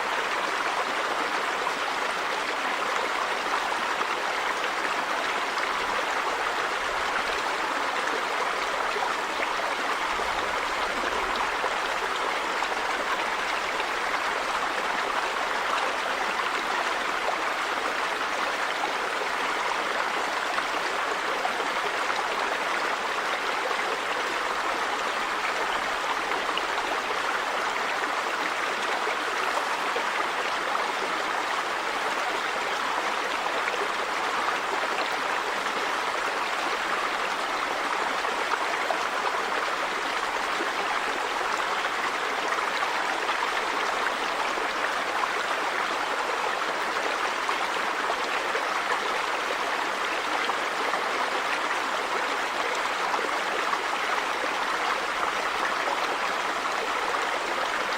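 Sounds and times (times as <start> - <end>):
river water running over rocks: 0.0 - 57.9.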